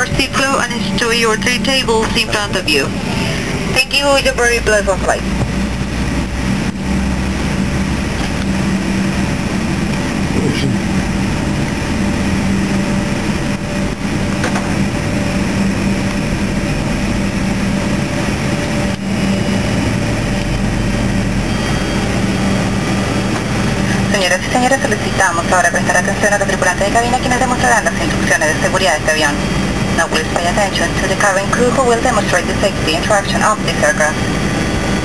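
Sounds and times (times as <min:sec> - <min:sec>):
airplane cabin rushing hum: 0:00.0 - 0:35.0
low drone: 0:00.0 - 0:35.0.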